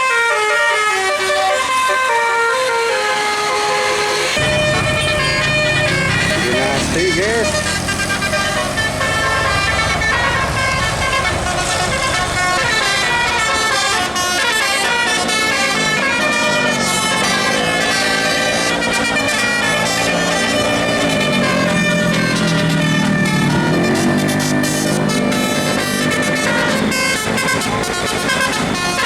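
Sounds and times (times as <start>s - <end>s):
musical air horn playing tune: 0.0s - 29.0s.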